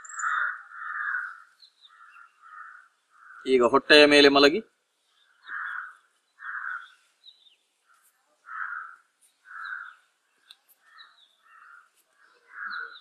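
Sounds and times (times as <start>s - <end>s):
bird calling: 0.0s - 3.6s, 5.1s - 13.0s
high chirps of small birds: 0.0s - 3.6s, 5.0s - 13.0s.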